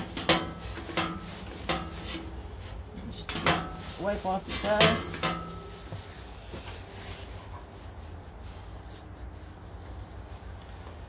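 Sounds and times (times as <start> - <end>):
cloth rubbing rubber tire: 0.0 - 11.0.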